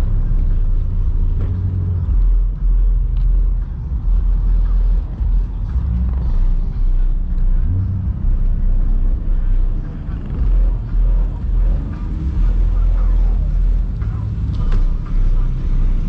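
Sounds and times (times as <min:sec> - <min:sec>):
car engines rumbling: 0:00.0 - 0:16.0.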